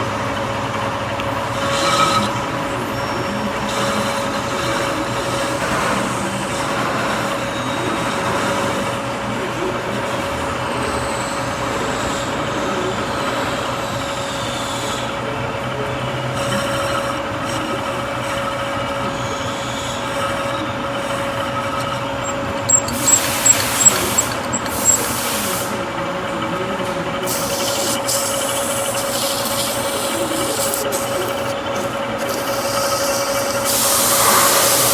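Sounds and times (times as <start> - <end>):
machine tool humming: 0.0 - 34.9.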